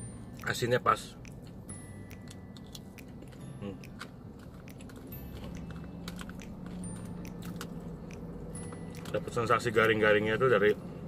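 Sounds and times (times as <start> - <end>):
chewing crunchy food: 0.2 - 9.4.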